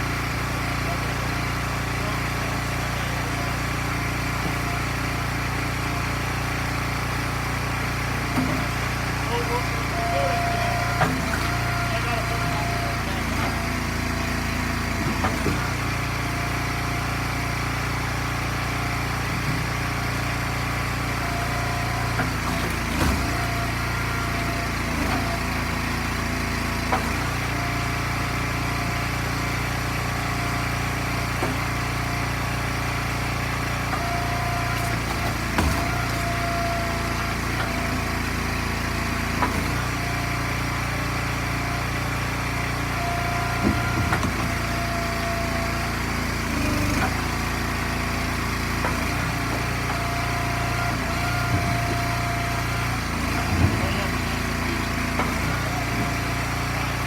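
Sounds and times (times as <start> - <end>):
small gasoline engine running: 0.0 - 57.0.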